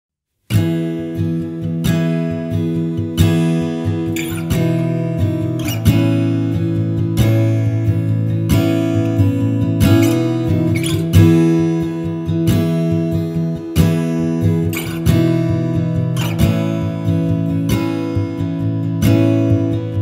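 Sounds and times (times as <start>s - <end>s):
acoustic guitar strumming chords: 0.5s - 20.0s.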